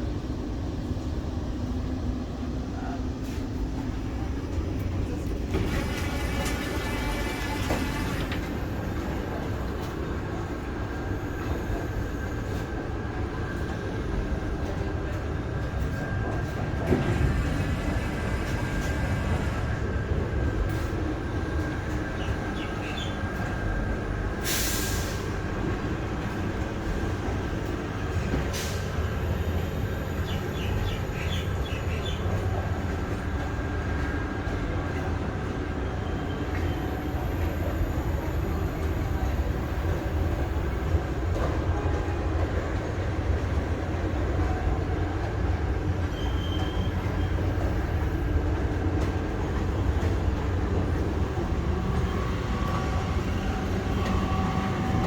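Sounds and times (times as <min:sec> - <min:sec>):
electric train rumbling: 0:00.0 - 0:55.0.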